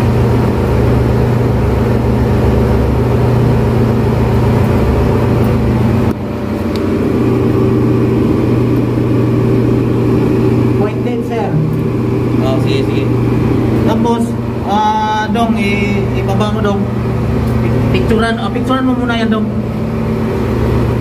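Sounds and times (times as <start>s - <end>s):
engine room machinery drone: 0.0s - 21.0s.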